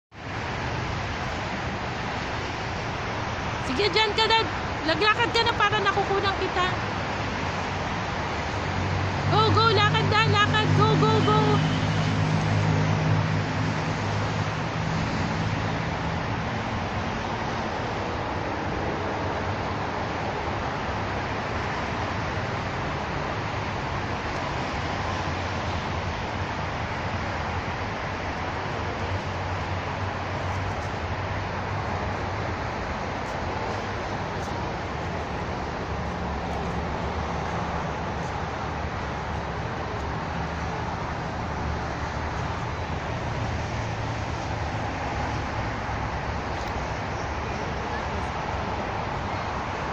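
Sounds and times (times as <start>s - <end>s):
low city rumble: 0.1s - 49.9s
steady rushing noise: 0.1s - 49.9s.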